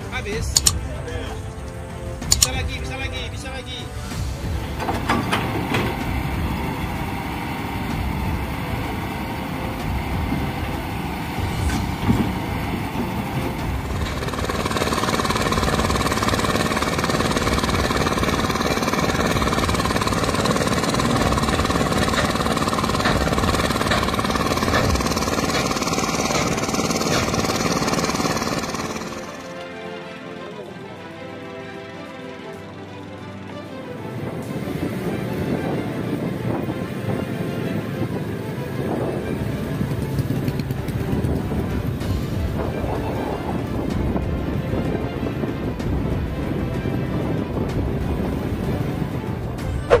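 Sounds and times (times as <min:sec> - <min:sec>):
heavy machinery engine droning: 0:00.0 - 0:50.0.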